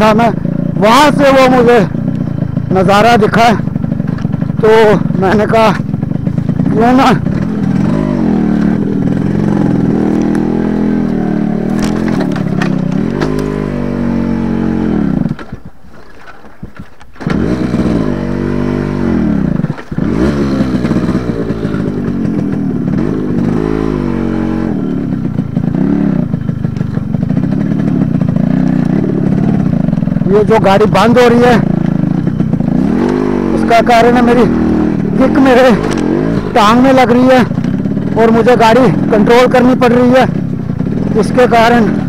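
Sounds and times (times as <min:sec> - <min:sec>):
two-stroke motorcycle engine: 0:00.0 - 0:42.0.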